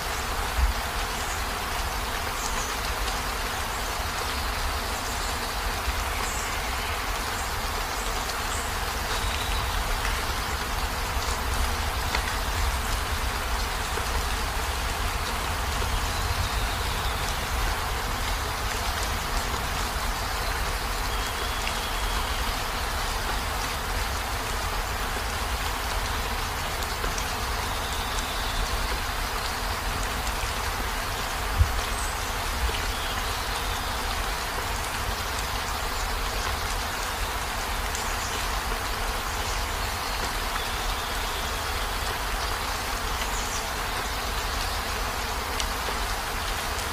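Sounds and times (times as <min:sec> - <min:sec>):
heavy rain on vehicle roof: 0:00.0 - 0:46.9.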